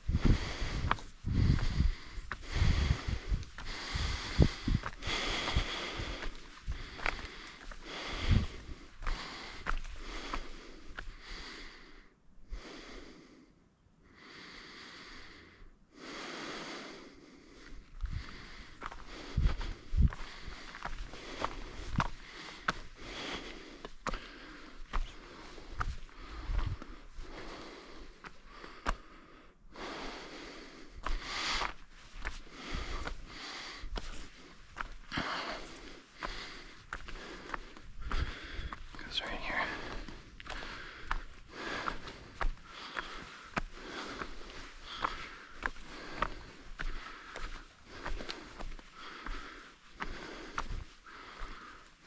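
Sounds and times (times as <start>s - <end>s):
heavy breathing close to microphone: 0.0s - 52.0s
footsteps clicking on rock: 0.1s - 11.2s, 18.1s - 27.6s, 30.9s - 52.0s.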